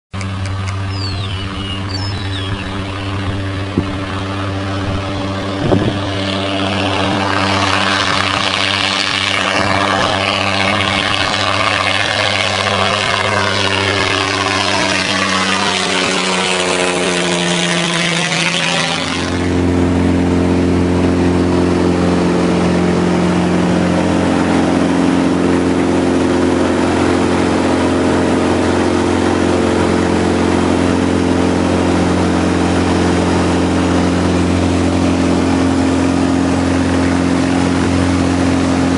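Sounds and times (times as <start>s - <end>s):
propeller plane engine running: 0.1s - 38.9s.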